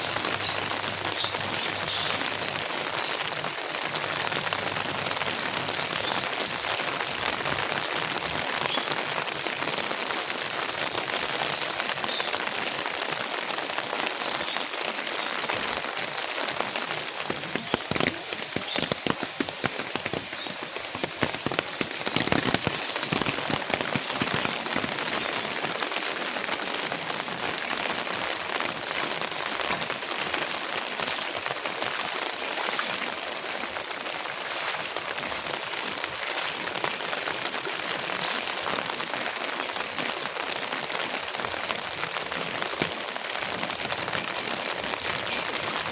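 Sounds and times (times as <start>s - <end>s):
heavy rain on hard surfaces: 0.0s - 45.9s.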